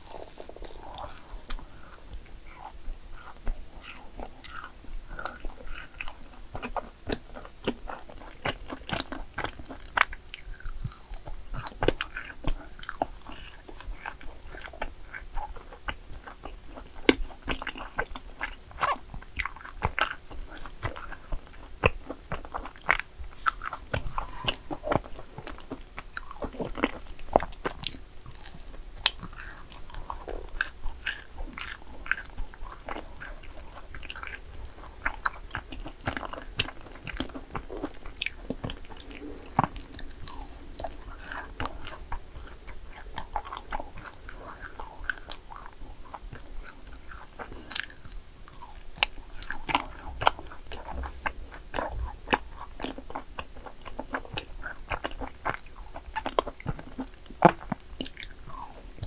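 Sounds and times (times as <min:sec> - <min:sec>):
crunchy cookie bites and chewing: 0:00.0 - 0:59.0.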